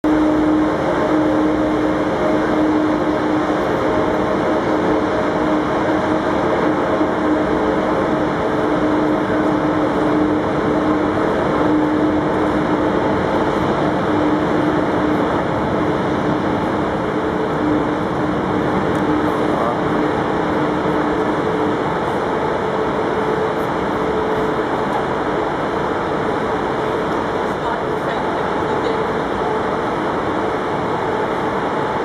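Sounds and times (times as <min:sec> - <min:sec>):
train equipment humming: 0:00.0 - 0:32.0.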